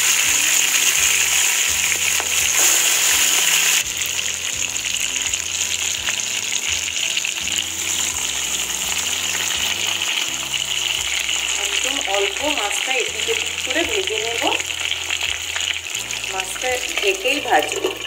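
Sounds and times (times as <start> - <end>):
prawns sizzling in hot oil: 0.0 - 18.0.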